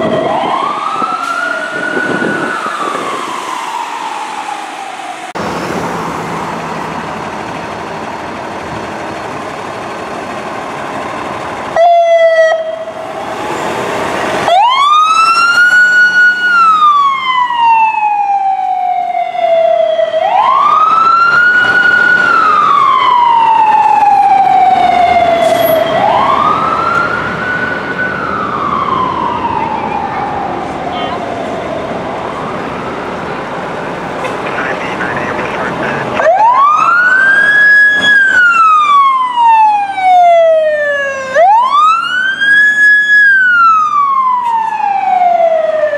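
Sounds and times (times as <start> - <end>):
siren wailing: 0.0 - 6.0, 11.8 - 33.5, 34.8 - 45.9
loud warbling siren blast: 0.0 - 6.8, 11.8 - 45.9
traffic noise: 0.0 - 45.9.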